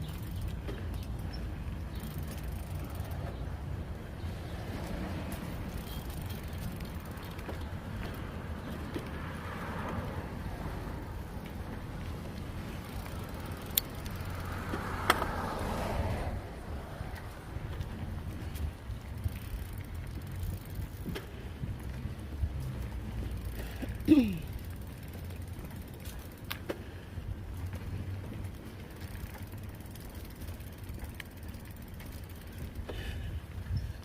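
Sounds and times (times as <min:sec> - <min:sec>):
bicycle drivetrain clicks: 0:00.0 - 0:34.0
wind and tyre rumble: 0:00.0 - 0:34.0.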